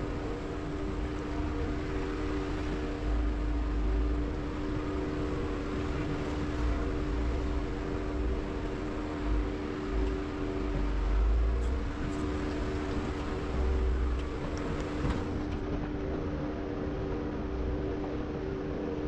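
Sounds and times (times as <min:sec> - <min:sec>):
car engine running low speed: 0:00.0 - 0:19.0
deep low rumbles: 0:00.0 - 0:19.0.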